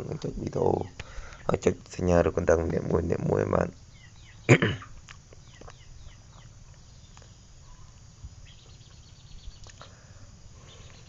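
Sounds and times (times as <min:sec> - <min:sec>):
faint bird chirping: 0:00.0 - 0:11.0
low steady background hum: 0:00.0 - 0:11.0.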